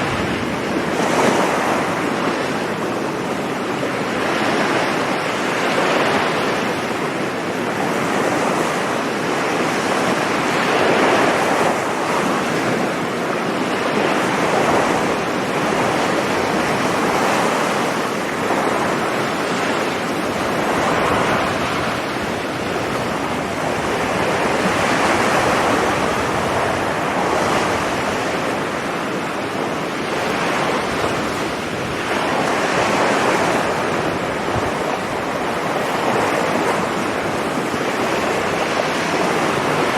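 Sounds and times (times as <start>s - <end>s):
surf breaking on a beach: 0.0s - 39.9s
wind on microphone: 0.0s - 39.9s.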